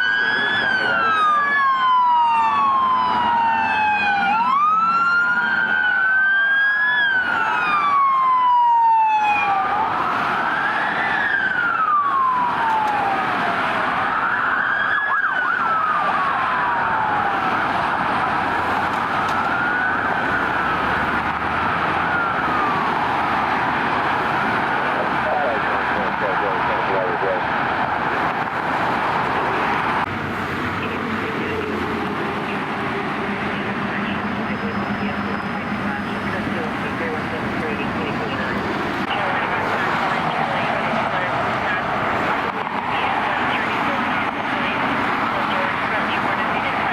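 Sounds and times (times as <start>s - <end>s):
police sirens wailing: 0.0s - 46.9s
traffic noise: 0.0s - 46.9s.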